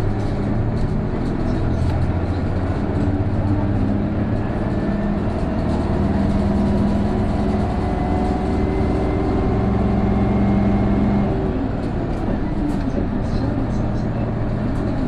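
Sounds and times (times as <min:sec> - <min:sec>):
bus diesel engine under load: 0:00.0 - 0:15.0.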